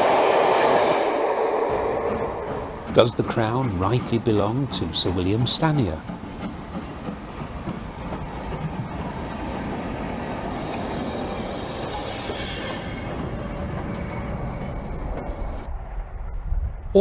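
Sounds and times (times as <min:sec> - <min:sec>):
steam locomotive passing: 0:00.0 - 0:16.1.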